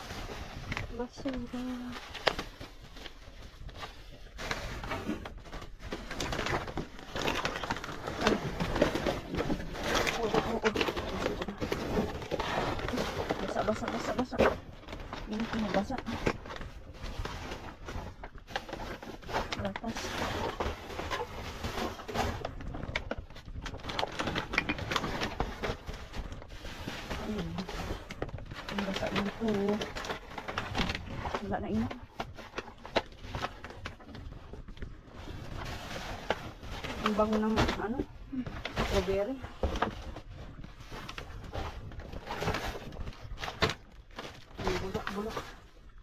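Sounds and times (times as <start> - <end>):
plastic bags rustling and crinkling: 0.0 - 46.0.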